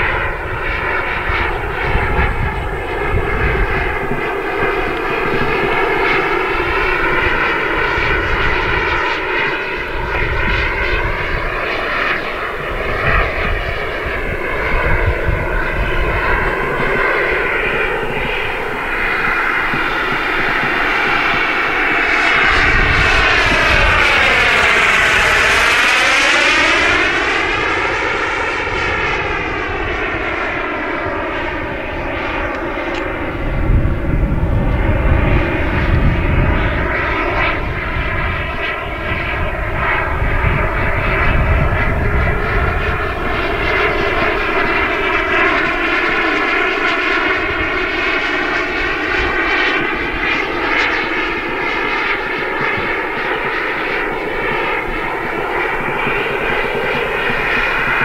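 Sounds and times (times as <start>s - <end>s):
model jet turbine: 0.0s - 58.0s.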